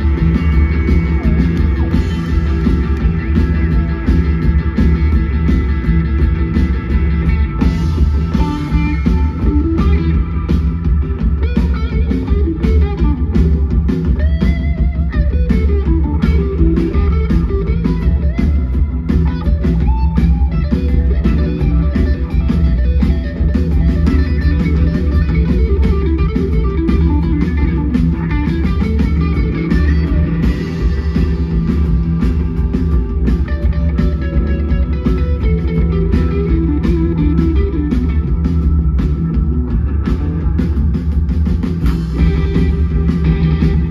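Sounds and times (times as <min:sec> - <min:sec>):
blues-rock band playing: 0:00.0 - 0:43.9
electric guitar lead: 0:00.0 - 0:43.9.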